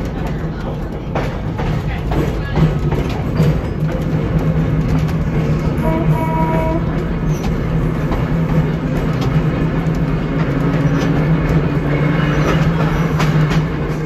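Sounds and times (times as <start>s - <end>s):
trolley motor hum: 0.0s - 14.0s
wheels clicking over rail joints: 0.0s - 14.0s.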